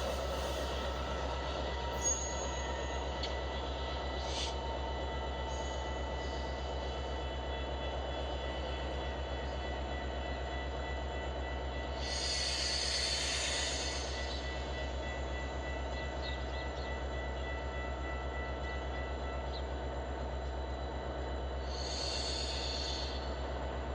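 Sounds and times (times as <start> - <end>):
diesel locomotive engine droning: 0.0 - 23.9.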